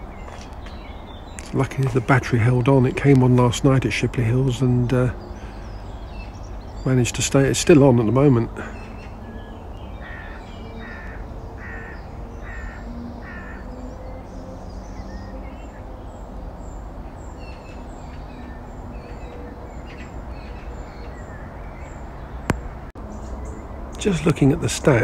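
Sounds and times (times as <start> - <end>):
birds calling and chirping: 0.0 - 25.0
low background noise: 0.0 - 25.0.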